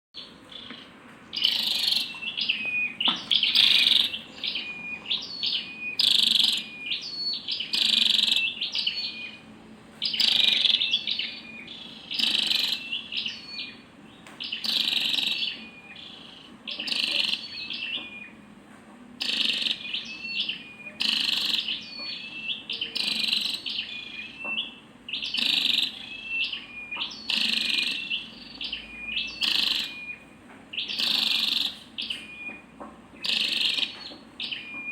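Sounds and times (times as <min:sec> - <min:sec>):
bird chirping: 0:00.2 - 0:18.4, 0:19.2 - 0:34.9.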